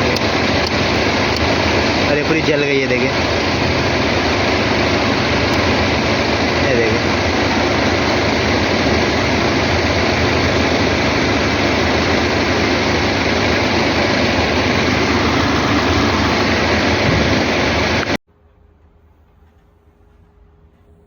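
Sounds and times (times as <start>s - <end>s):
loud mechanical running noise: 0.0s - 18.2s.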